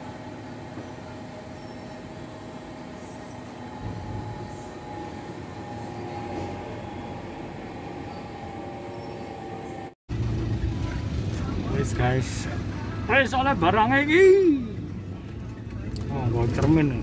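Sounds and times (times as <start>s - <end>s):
mechanical drone with whining tones: 0.0s - 17.0s.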